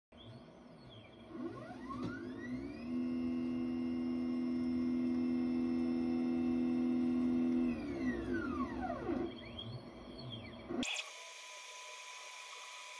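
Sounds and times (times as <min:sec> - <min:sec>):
stepper motors whining: 0:00.2 - 0:12.9.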